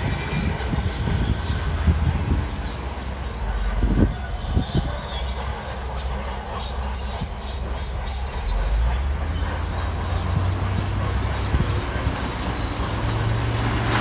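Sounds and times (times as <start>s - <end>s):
bulldozer diesel engine: 0.0s - 14.0s
crawler tracks clanking and squealing: 0.0s - 14.0s.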